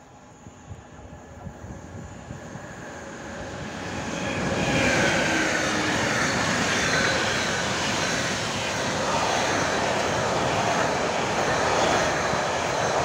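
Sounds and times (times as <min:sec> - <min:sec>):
train wheels on rails: 0:02.2 - 0:13.0.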